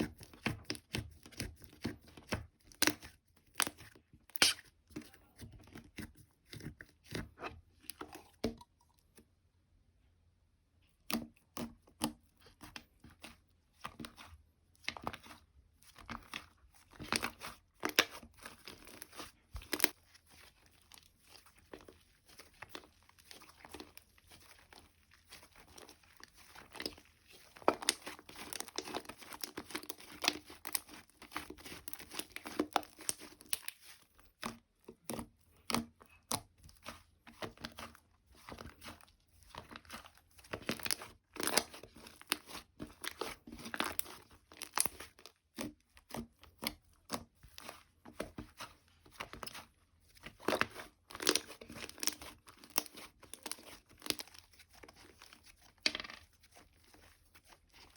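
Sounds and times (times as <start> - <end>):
hands squishing slime: 0.0 - 9.3, 10.8 - 57.9.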